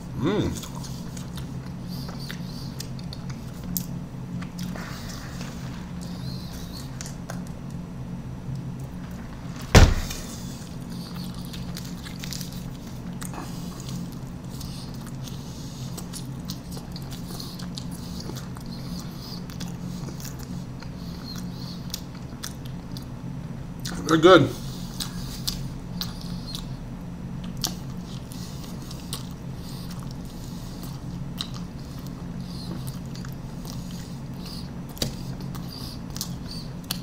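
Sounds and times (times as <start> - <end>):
faint eating sounds: 0.0 - 37.0.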